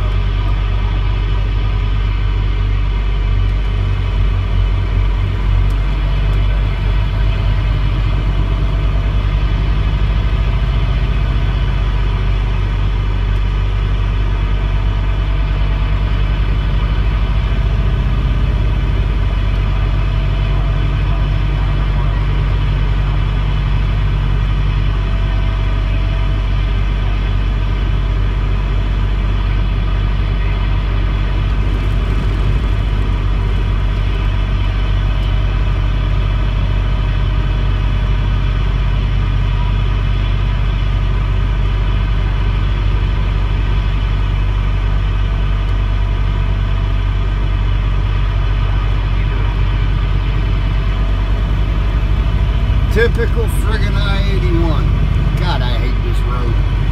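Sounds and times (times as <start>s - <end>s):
car engine drone: 0.0s - 56.9s.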